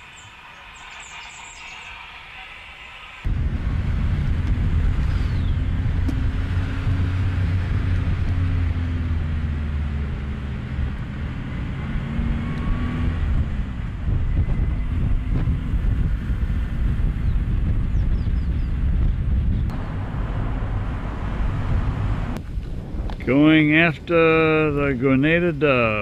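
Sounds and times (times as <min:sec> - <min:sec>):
vehicle engine hum: 0:00.0 - 0:23.3
road noise rumble: 0:00.0 - 0:26.0.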